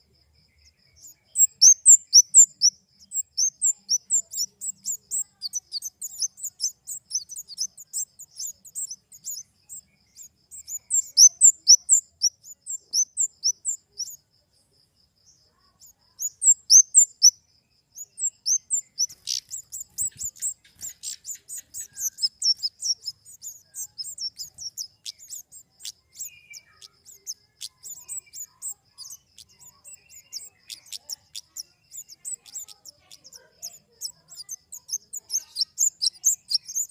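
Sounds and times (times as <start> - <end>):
bird high thin chirps: 0.9 - 14.2, 15.6 - 17.4, 18.0 - 36.9.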